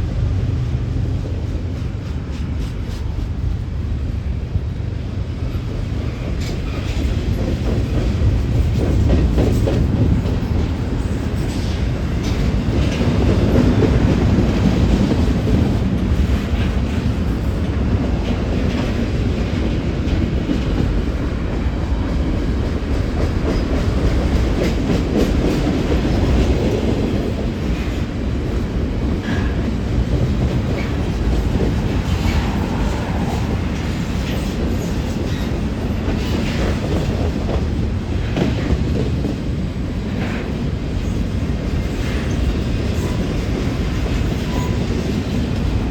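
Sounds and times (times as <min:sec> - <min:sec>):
freight train rumbling past: 0:00.0 - 0:45.9.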